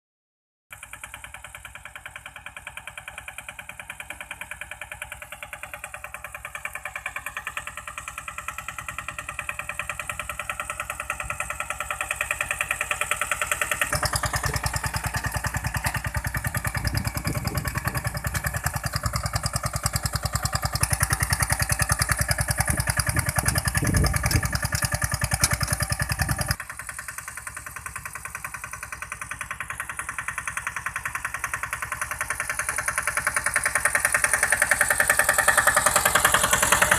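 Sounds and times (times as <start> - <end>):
tractor engine running: 0.7 - 36.9.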